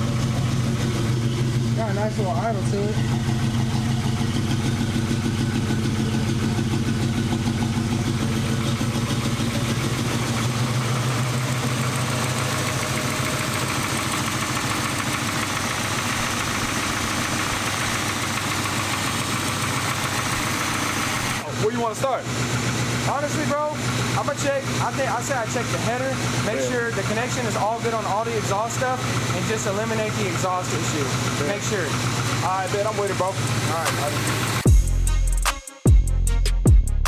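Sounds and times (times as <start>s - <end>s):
car engine idling: 0.0s - 34.8s.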